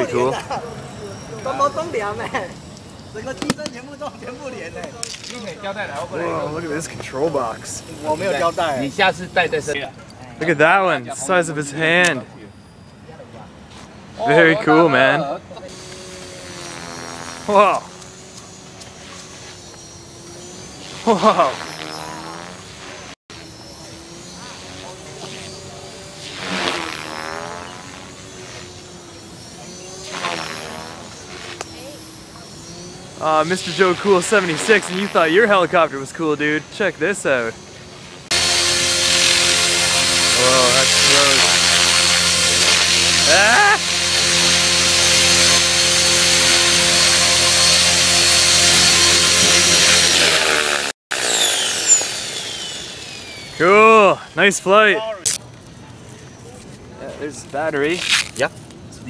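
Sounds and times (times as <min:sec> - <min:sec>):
rc helicopter motor whine: 0:00.0 - 0:55.7.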